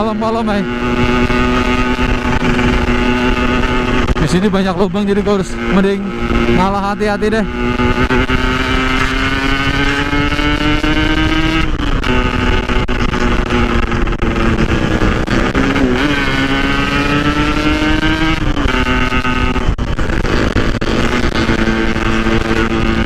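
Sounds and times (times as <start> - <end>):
two-stroke motorcycle engine revving: 0.0 - 23.0.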